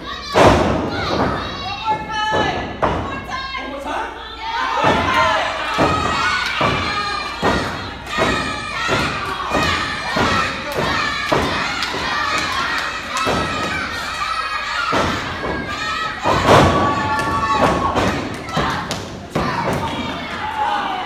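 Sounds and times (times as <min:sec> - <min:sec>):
children shouting and cheering: 0:00.0 - 0:21.0.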